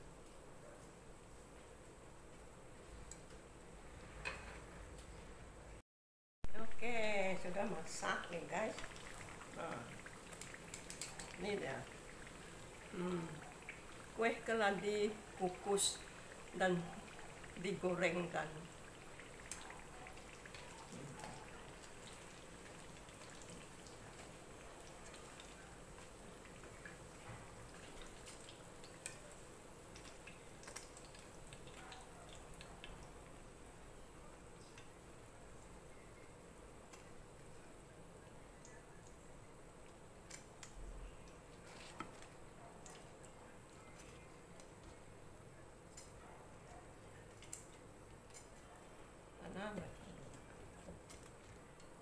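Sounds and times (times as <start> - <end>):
hot oil sizzling: 6.5 - 52.0.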